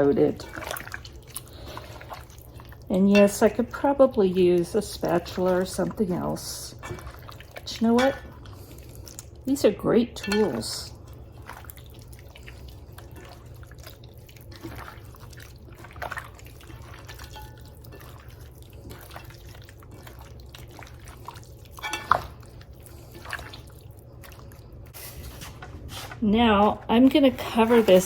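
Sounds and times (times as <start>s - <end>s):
wet squelches of raw chicken: 0.3s - 9.7s, 10.7s - 25.4s.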